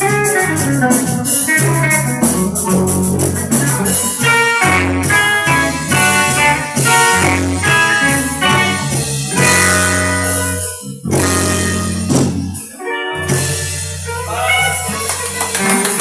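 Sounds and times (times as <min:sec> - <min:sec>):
bass notes: 0:00.0 - 0:16.0
guitar playing: 0:00.0 - 0:16.0.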